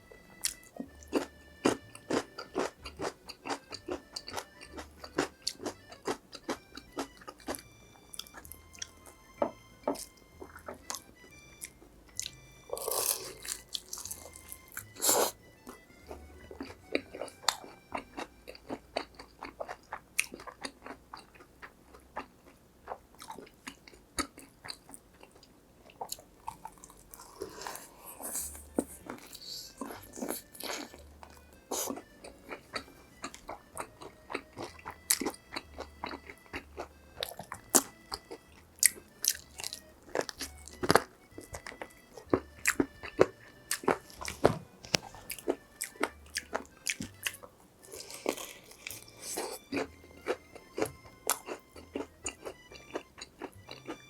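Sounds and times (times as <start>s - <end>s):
crunching crispy fried food: 0.4s - 9.2s, 11.6s - 54.0s.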